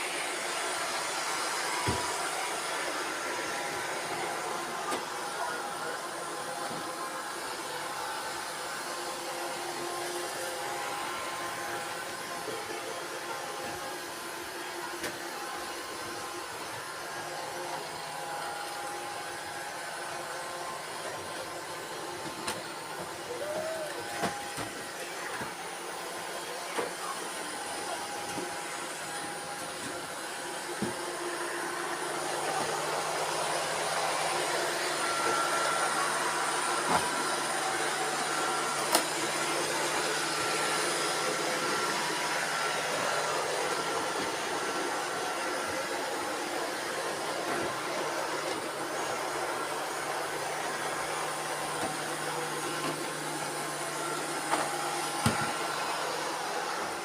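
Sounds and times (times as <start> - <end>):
robot vacuum cleaners whirring: 0.0 - 57.0.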